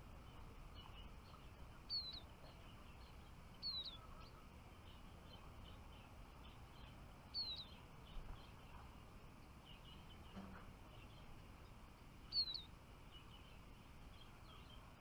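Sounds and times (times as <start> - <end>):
outdoor background noise: 0.0 - 15.0
small songbirds chirping: 0.0 - 15.0.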